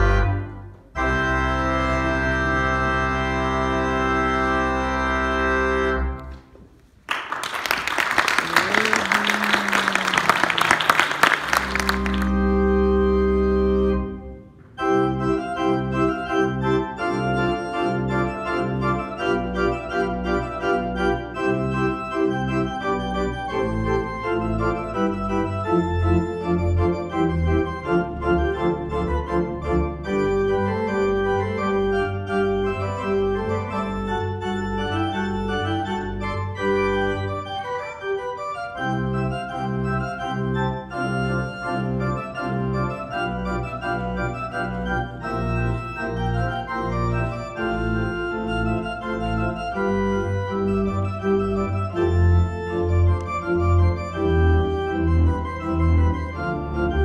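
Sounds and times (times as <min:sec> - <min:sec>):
organ pedal bass: 0:00.0 - 0:06.4, 0:10.1 - 0:57.0
organ playing chords: 0:00.0 - 0:57.0.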